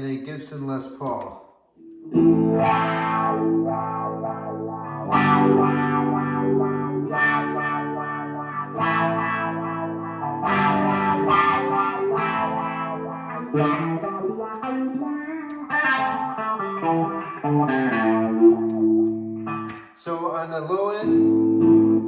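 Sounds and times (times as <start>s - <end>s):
electric guitar chords with wah: 1.9s - 19.9s, 21.0s - 22.0s.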